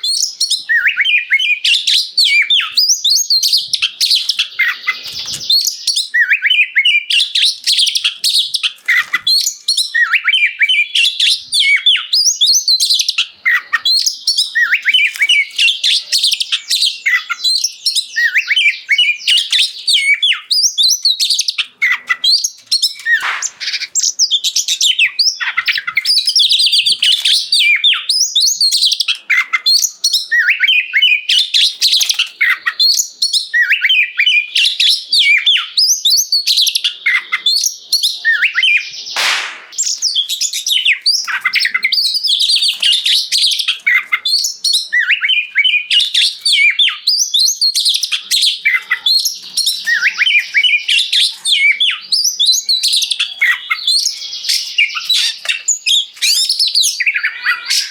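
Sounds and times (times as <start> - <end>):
bird singing: 0.0 - 57.9.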